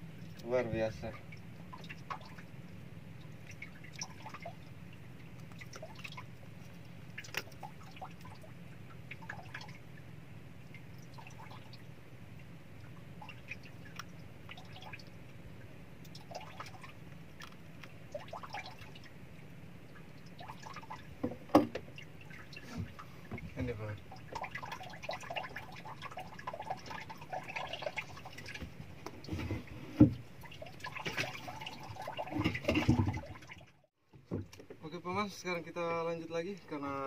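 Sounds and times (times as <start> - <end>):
water dripping and lapping: 0.0 - 34.8.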